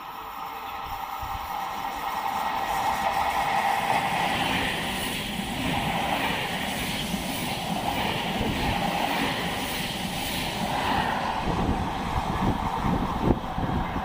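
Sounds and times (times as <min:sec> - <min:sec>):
electric train passing at speed: 0:00.0 - 0:14.0.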